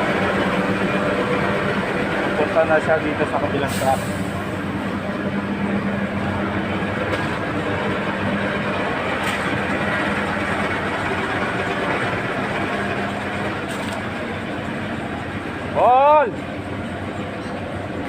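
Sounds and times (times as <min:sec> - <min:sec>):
truck engine humming: 0:00.0 - 0:18.0.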